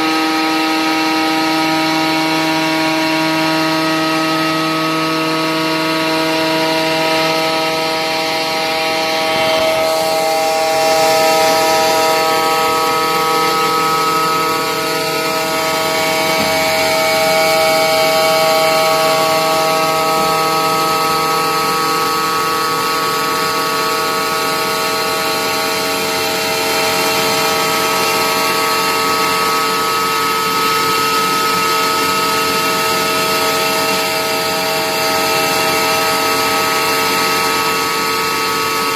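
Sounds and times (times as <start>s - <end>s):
metal cutting noise: 0.0s - 38.9s
router spindle whine: 0.0s - 38.9s.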